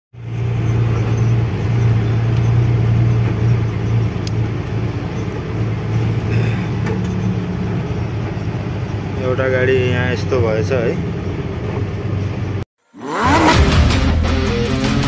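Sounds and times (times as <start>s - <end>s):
road noise: 0.1s - 13.9s
truck diesel engine droning: 0.2s - 15.0s.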